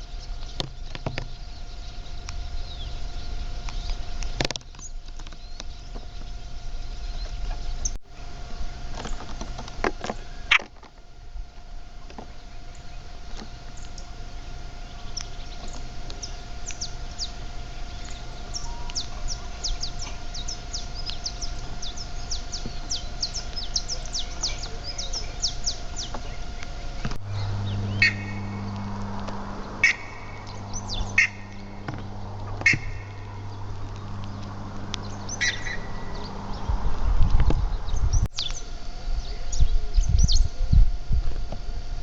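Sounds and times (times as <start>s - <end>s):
loud bird calls: 0.0s - 40.5s
birds chirping: 0.0s - 40.7s.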